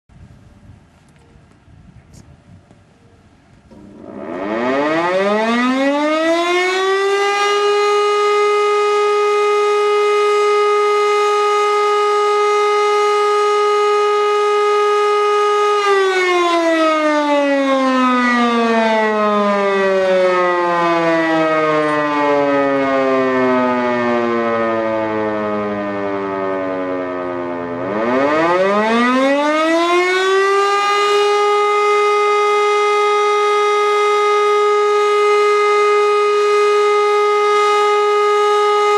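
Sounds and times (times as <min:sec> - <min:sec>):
civil defence siren howling: 0:03.7 - 0:38.9.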